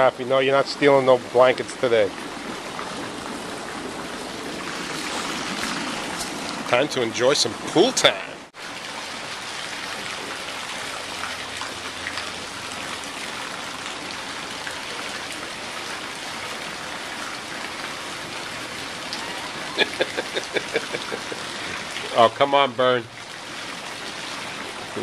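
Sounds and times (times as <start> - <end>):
water splashing in pool: 0.0 - 25.0.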